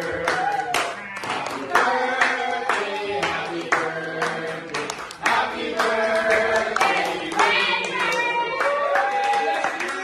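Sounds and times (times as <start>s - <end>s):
group of people singing: 0.0s - 8.9s
hand clapping: 0.2s - 10.0s.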